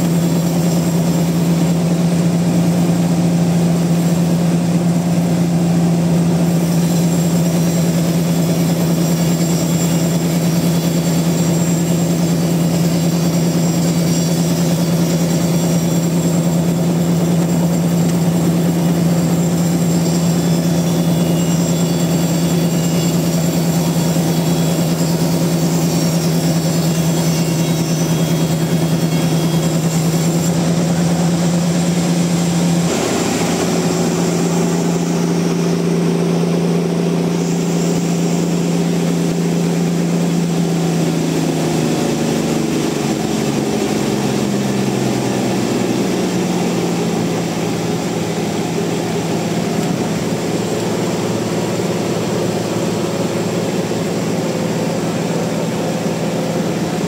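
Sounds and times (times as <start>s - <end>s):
sawmill machinery hum: 0.0s - 57.0s.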